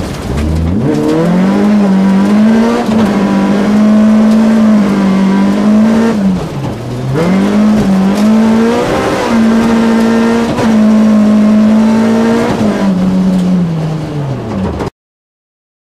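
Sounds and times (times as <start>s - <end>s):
car engine at high revs: 0.0s - 14.9s
road noise: 0.0s - 14.9s.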